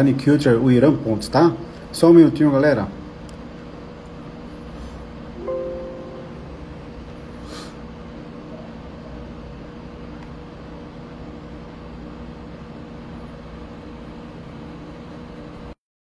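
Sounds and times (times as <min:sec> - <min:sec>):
low background hum: 0:00.0 - 0:15.7.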